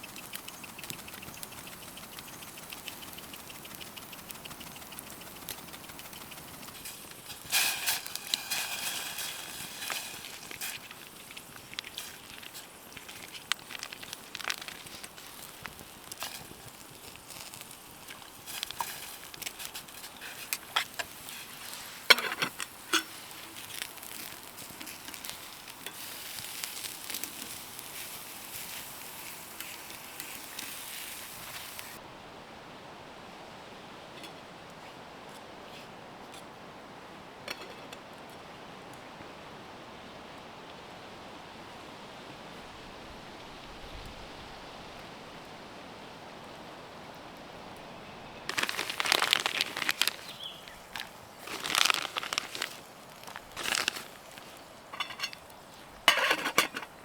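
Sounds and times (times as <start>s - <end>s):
campfire crackling and hissing: 0.0s - 32.2s, 38.1s - 57.0s.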